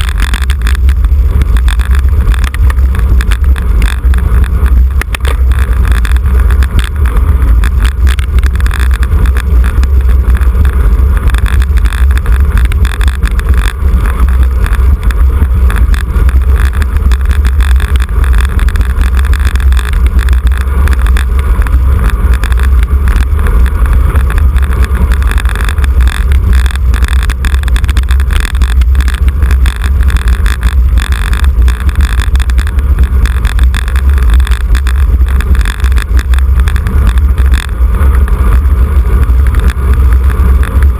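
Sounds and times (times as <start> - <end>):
rushing noise: 0.0 - 40.9
wind buffeting microphone: 0.0 - 40.9.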